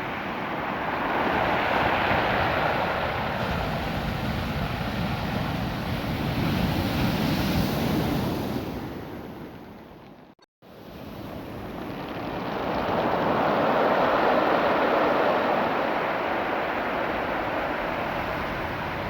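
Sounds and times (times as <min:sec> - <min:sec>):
surf washing over rocks: 0:00.0 - 0:09.1, 0:11.0 - 0:19.0.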